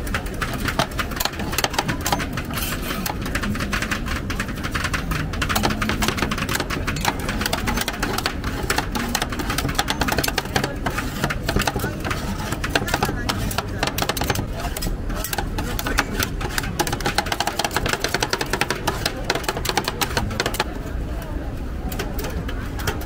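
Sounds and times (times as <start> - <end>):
metal spatulas clattering on steel: 0.1 - 20.7.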